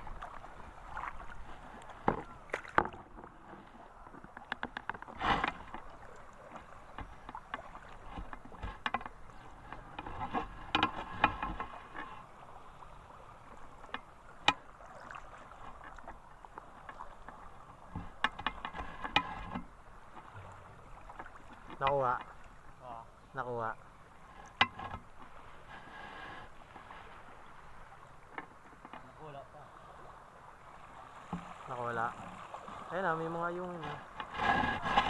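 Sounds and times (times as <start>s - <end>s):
water sloshing and splashing: 0.0s - 35.0s.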